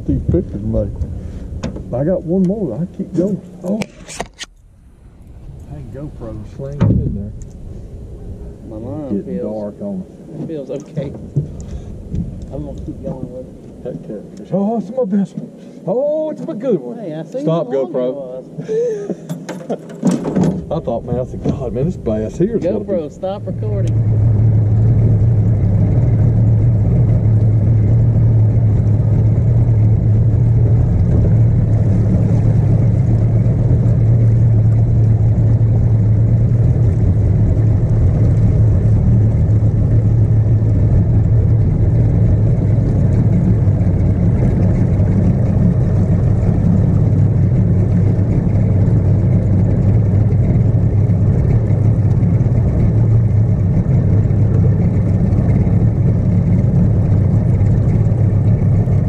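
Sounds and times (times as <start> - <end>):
outboard motor droning: 0.0 - 59.0.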